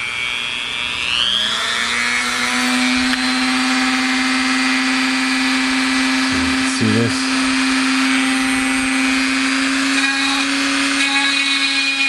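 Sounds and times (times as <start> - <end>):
rotary tool motor whine: 0.0 - 12.0.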